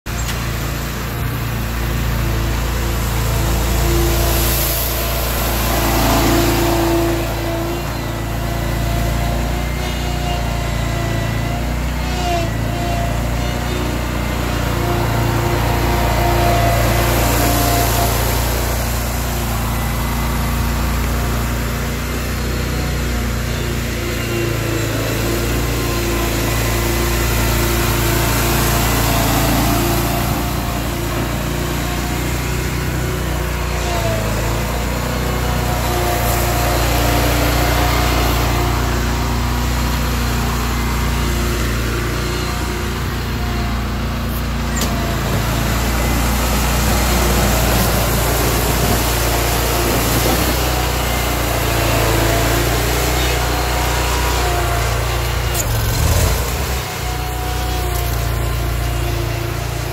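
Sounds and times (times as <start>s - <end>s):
mower engine running: 0.0s - 59.9s.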